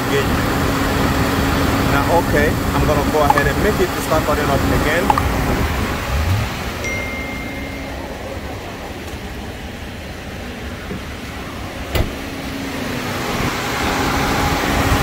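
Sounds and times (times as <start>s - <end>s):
car engine running: 0.6s - 13.0s.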